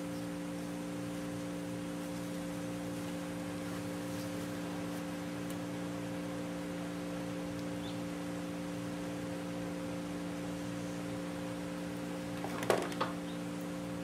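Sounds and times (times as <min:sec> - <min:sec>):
constant hiss: 0:00.0 - 0:14.0
electrical mains hum: 0:00.0 - 0:14.0.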